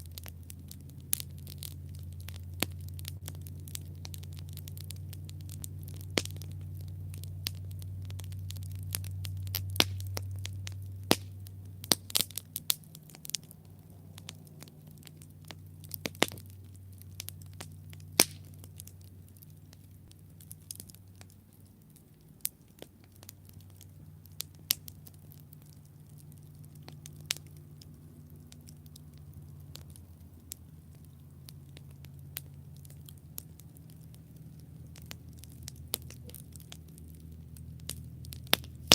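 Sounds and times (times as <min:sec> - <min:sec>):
campfire crackling: 0:00.0 - 0:38.9
low hum: 0:00.0 - 0:38.9.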